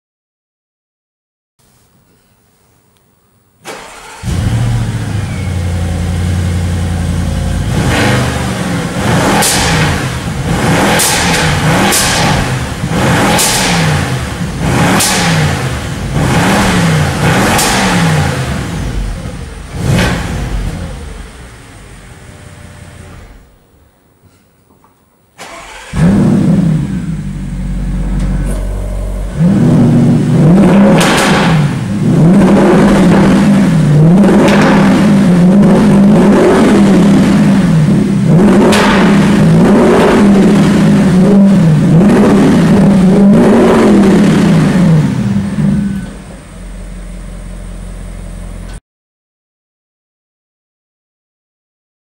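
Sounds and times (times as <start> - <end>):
car engine starting and revving: 3.6 - 23.6, 25.4 - 48.8.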